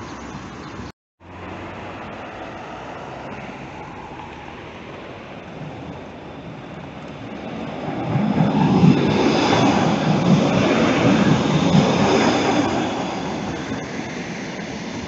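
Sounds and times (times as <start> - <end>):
street traffic noise: 0.0 - 15.0
tram rumbling on rails: 0.0 - 15.0.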